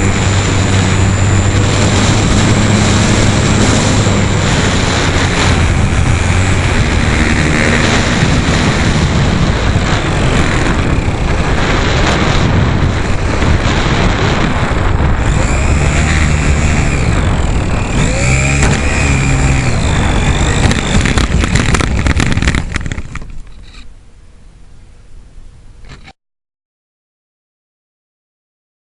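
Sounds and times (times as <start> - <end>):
steady rush: 0.0 - 23.5
model airplane motor whining: 0.0 - 23.9.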